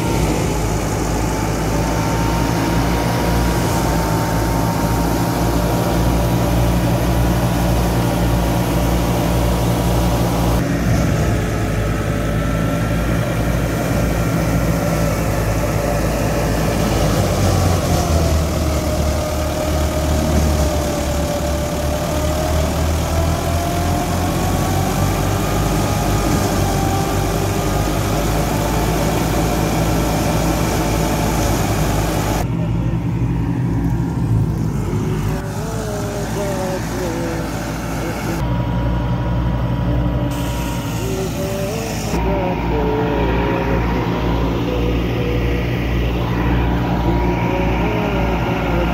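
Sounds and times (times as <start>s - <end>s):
diesel tractor engine running: 0.0s - 48.9s
machinery whine: 0.0s - 48.9s.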